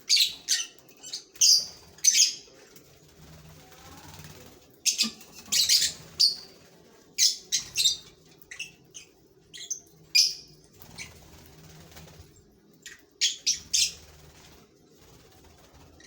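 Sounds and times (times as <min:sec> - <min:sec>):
lovebirds chirping and squawking: 0:00.0 - 0:14.6.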